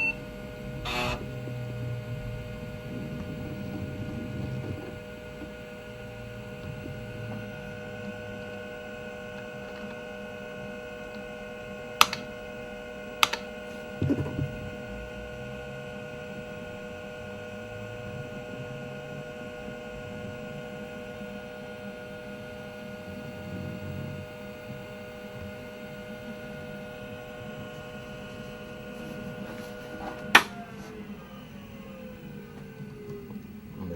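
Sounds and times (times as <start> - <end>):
computer fan and drive whine: 0.0 - 33.9
motors spinning down: 0.0 - 33.9.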